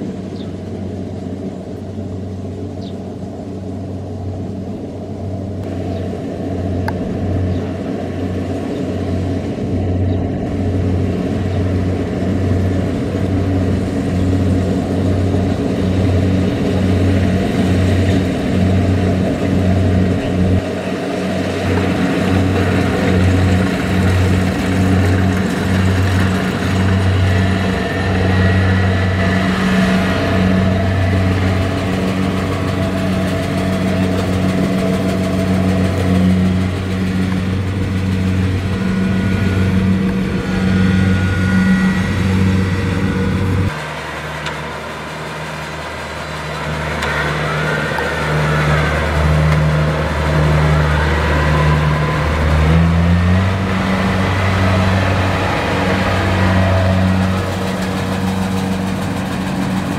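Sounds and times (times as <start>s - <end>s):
combine harvester engine drone: 0.0s - 59.9s
rushing machinery noise: 0.0s - 59.9s.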